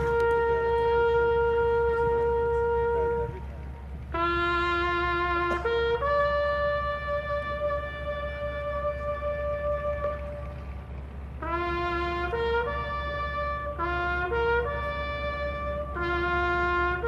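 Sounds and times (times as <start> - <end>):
brass horn playing long notes: 0.0 - 17.0.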